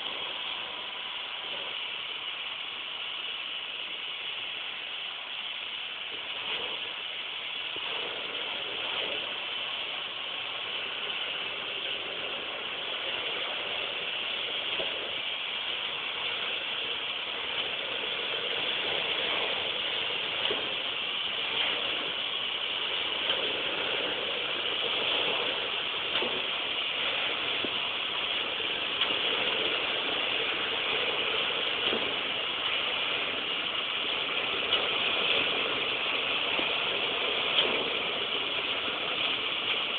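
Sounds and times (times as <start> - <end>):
tractor engine running: 0.0 - 39.9
bale shredder clattering: 7.7 - 39.9.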